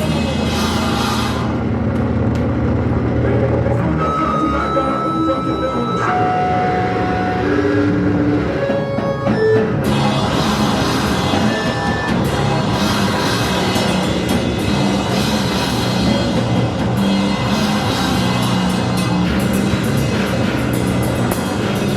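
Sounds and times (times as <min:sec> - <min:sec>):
rock band playing: 0:00.0 - 0:02.8, 0:03.8 - 0:21.9.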